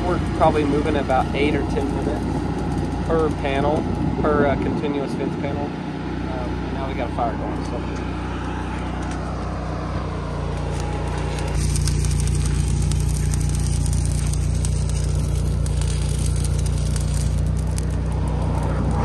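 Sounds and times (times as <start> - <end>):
engine humming: 0.0 - 19.0
welding arc crackling: 0.0 - 19.0.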